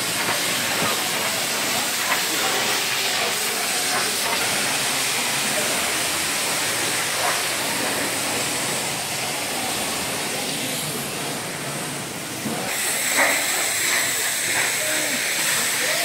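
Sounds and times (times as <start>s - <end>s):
high-pressure water spray hissing: 0.0s - 16.0s.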